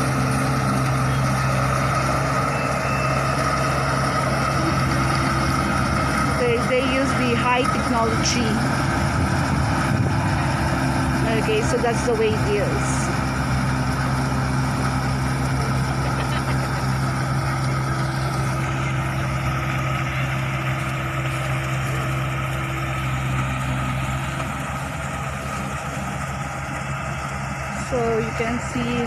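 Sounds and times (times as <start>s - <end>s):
harvester engine droning: 0.0s - 29.0s.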